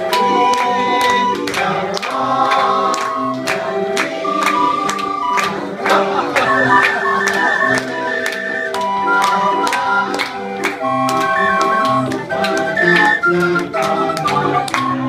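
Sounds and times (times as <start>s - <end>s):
barrel organ playing a tune: 0.0s - 15.0s
hand claps keeping time: 0.0s - 15.0s.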